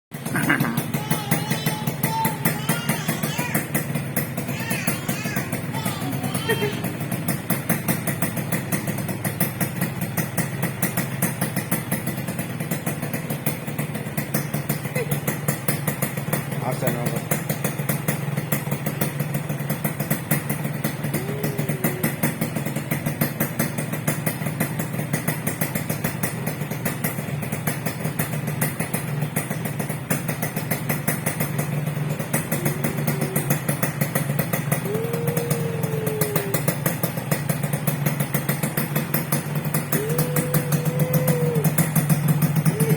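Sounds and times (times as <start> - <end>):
motorcycle engine idling: 0.1 - 42.9.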